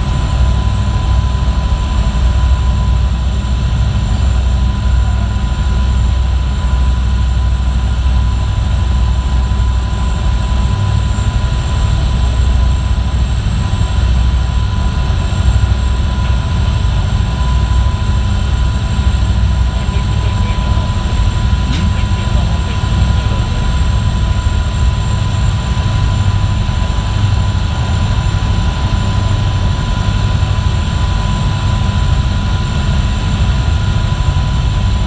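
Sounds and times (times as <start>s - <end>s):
boat engine droning: 0.0s - 35.0s
high steady whine: 0.0s - 35.0s.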